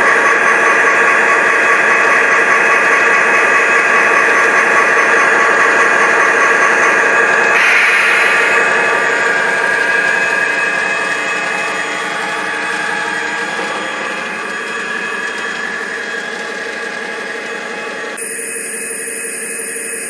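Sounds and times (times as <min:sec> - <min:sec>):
faint motor whine: 0:00.0 - 0:20.0.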